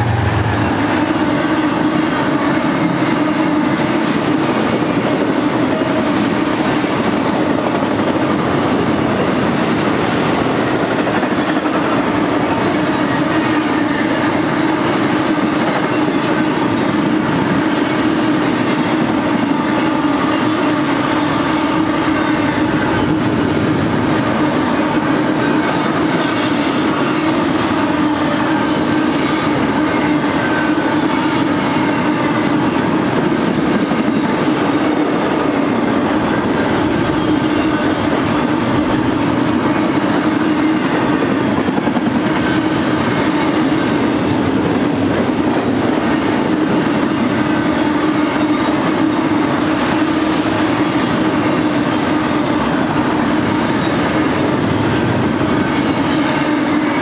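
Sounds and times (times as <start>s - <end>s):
steel train wheels on rail: 0.0s - 57.0s.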